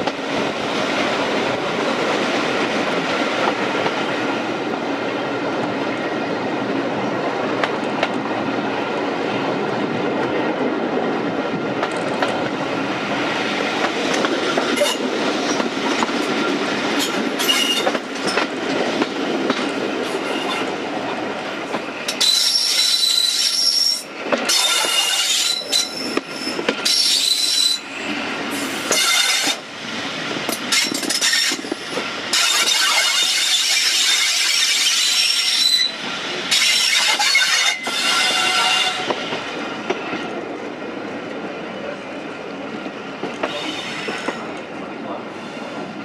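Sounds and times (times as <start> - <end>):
train wheels running on rails: 0.0 - 46.0.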